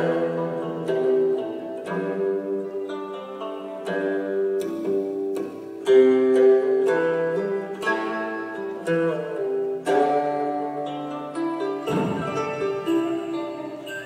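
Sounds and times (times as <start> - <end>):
held chords: 0.0 - 14.0
plucked string melody: 0.0 - 14.0.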